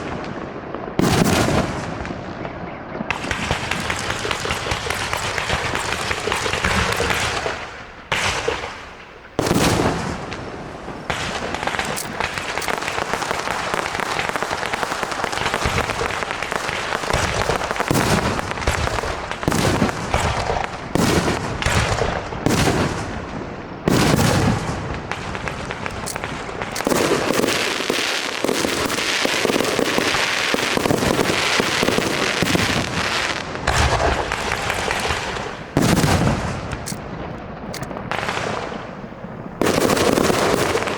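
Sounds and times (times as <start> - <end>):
fireworks crackling: 0.0 - 2.5, 3.1 - 40.9
fireworks bangs: 0.0 - 40.9.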